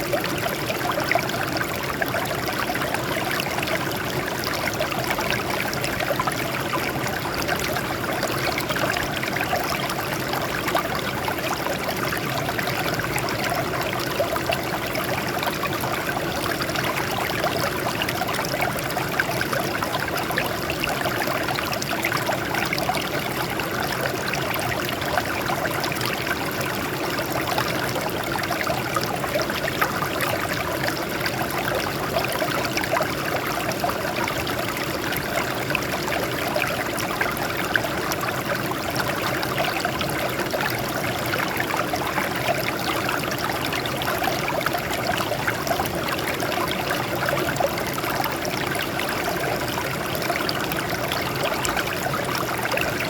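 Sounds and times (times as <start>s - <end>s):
water trickling over rocks: 0.0s - 53.0s.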